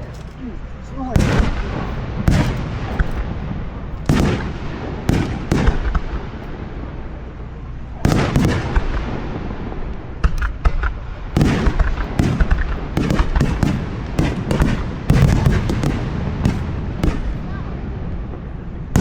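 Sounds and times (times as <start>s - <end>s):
fireworks bangs and booms: 1.0s - 19.0s.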